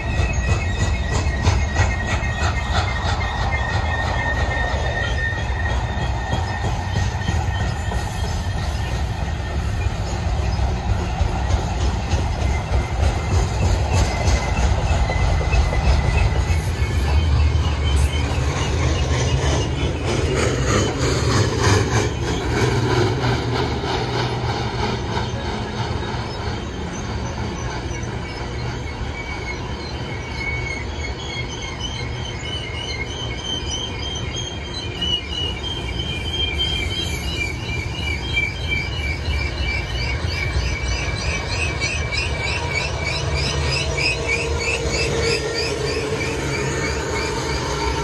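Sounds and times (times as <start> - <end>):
high-pitched wheel squeal: 0.0 - 48.0
steel wheels rumbling on rail: 0.0 - 48.0.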